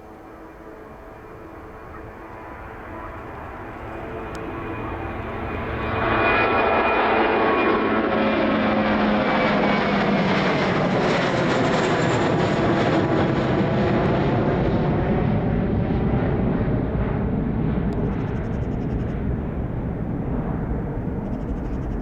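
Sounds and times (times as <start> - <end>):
aircraft engines passing: 0.0 - 22.0.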